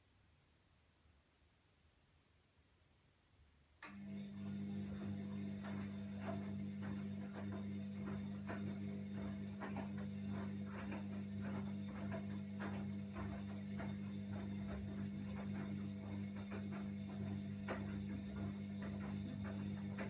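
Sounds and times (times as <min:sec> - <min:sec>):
washing machine motor hum: 0:03.8 - 0:20.0.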